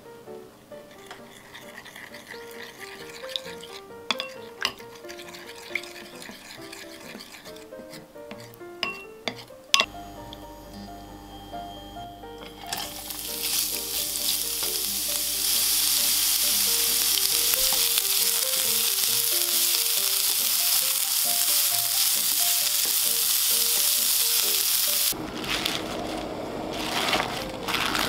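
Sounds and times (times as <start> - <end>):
soft background music: 0.0 - 25.2
carrot sizzling in hot oil: 0.9 - 8.6, 9.2 - 28.0.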